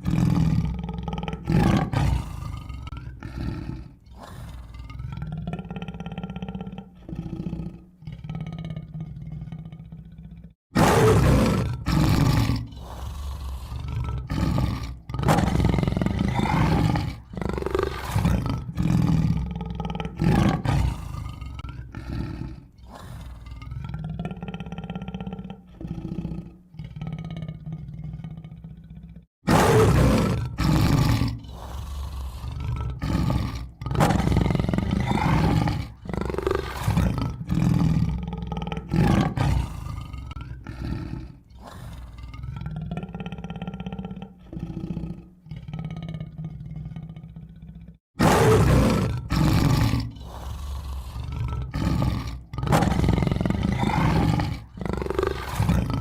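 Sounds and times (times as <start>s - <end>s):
tiger roaring and growling: 0.0s - 56.0s.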